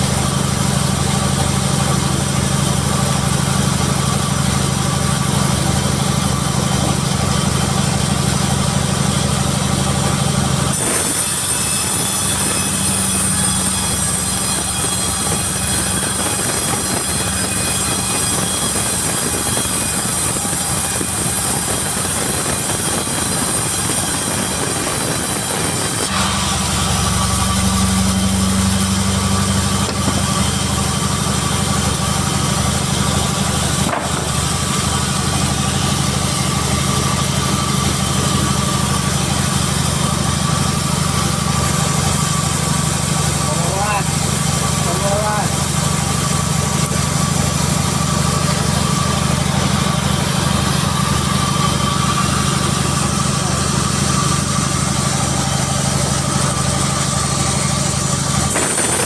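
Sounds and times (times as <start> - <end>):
sawmill machinery humming and hissing: 0.0 - 59.0.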